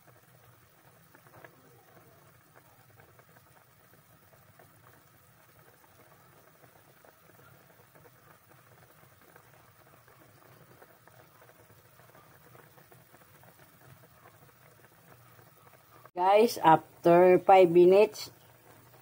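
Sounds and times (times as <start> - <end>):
broth bubbling in a wok: 0.0 - 19.0.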